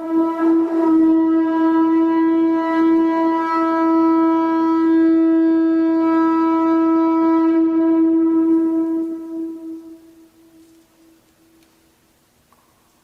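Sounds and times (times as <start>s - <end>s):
conch shell trumpet long note: 0.0s - 11.2s.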